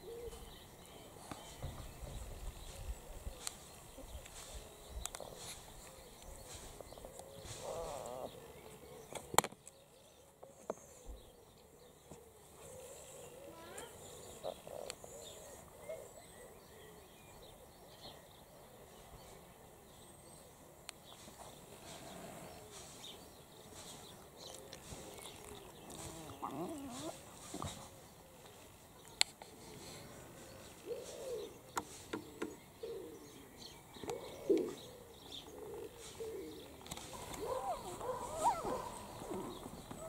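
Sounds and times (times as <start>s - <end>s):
birds calling: 0.0s - 40.0s.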